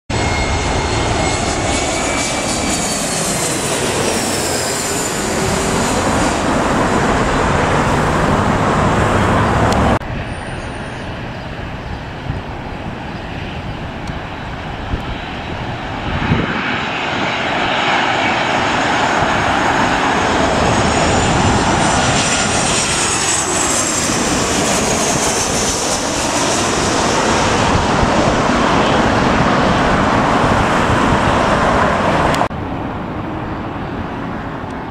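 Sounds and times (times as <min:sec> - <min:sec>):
jet airliners passing overhead: 0:00.1 - 0:34.9.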